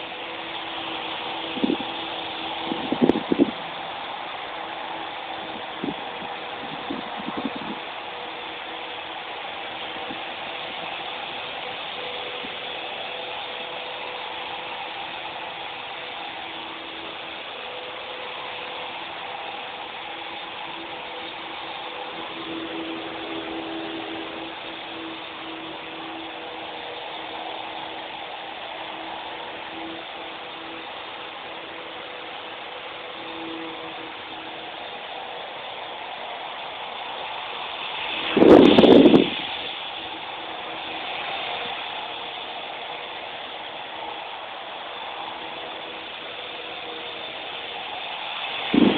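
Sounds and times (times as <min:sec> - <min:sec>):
gear buzz: 0:00.0 - 0:48.9
toy helicopter rotors whirring: 0:00.0 - 0:48.9.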